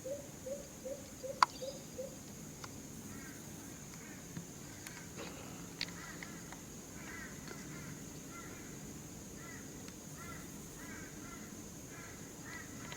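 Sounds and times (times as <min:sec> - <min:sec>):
steady high-pitched hum: 0:00.0 - 0:12.9.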